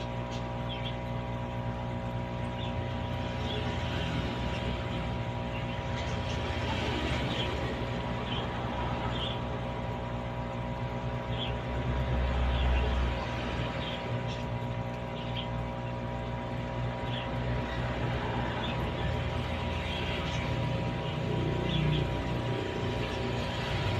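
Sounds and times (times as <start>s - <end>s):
aquarium pump humming: 0.0s - 23.9s.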